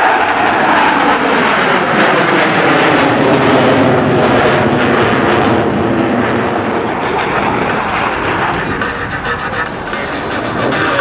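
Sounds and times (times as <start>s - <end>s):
fighter jets flying overhead: 0.0s - 11.0s.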